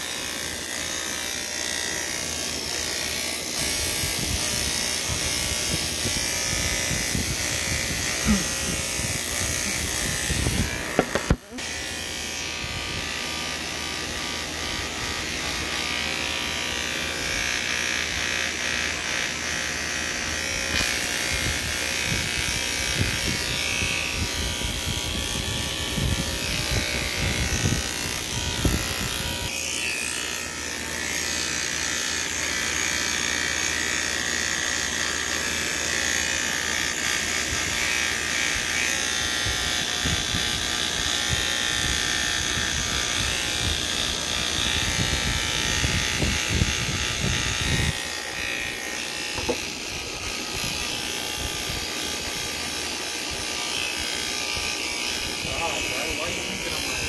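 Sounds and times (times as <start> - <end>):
electric hair clippers buzzing: 0.0 - 57.0.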